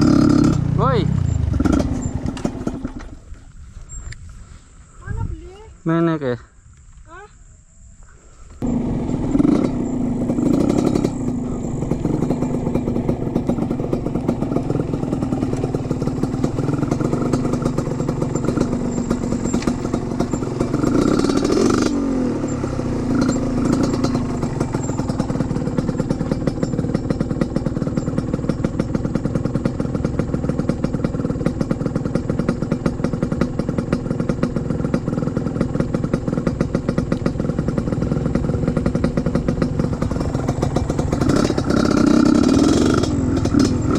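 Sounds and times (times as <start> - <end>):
motorcycle engine running: 0.0 - 3.6, 8.6 - 43.9.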